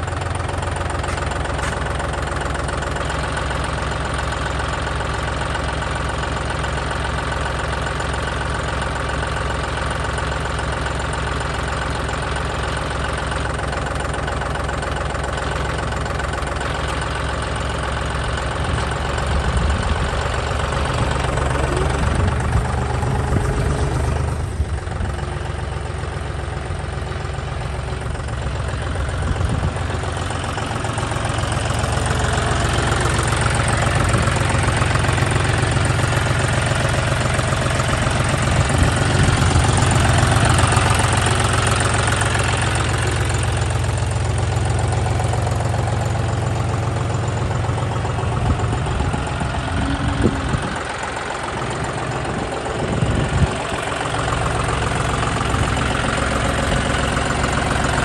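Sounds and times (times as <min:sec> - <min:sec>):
engine knocks: 0:00.0 - 0:58.0
tractor diesel engine idling: 0:00.0 - 0:58.0.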